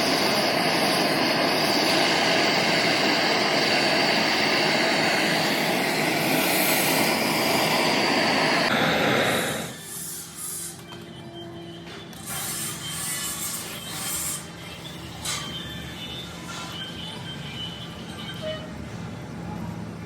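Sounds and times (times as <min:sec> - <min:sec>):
workshop machine humming: 0:00.0 - 0:20.0.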